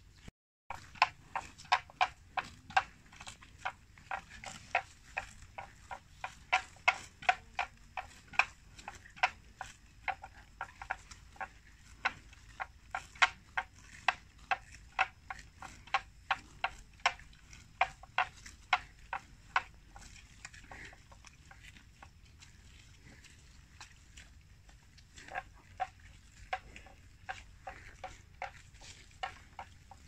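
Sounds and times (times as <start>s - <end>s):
buffalo tearing grass: 0.7s - 30.0s.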